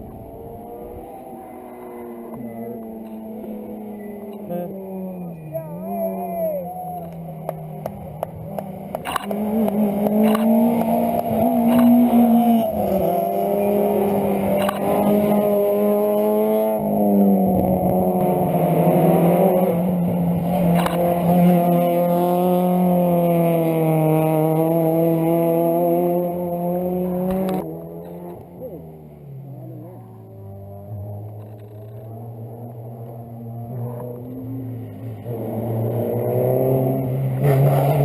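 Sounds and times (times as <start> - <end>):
car engine revving with gear changes: 0.0 - 38.0.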